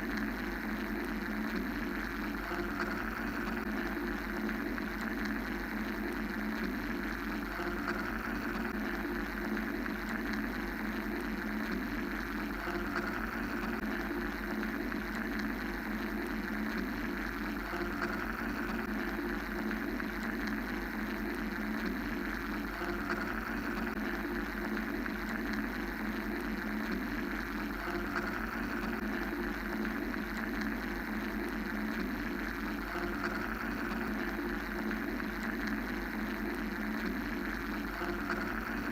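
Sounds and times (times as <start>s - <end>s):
mechanical white noise drone: 0.0s - 38.9s.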